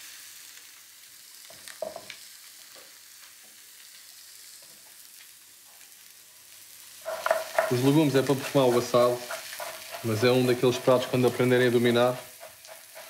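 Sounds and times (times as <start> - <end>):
duck skin sizzling in a frying pan: 0.0 - 13.0.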